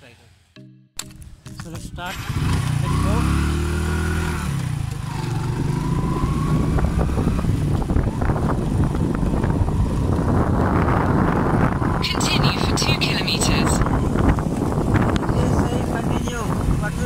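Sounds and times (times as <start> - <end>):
motorcycle engine revving: 1.1 - 12.8, 13.8 - 17.0
wind noise on microphone: 1.2 - 17.0.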